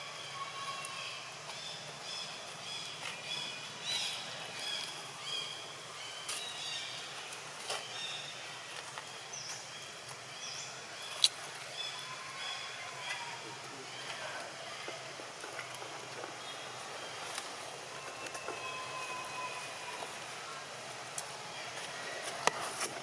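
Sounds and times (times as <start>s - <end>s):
birds calling: 0.0s - 20.7s.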